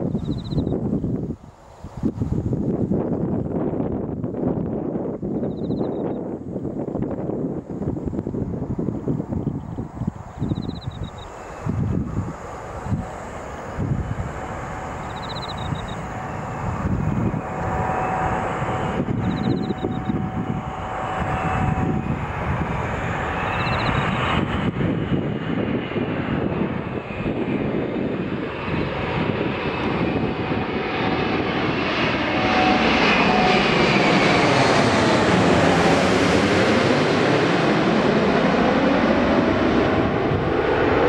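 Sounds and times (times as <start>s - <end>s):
jet airliner rumble and whine: 0.0s - 41.0s.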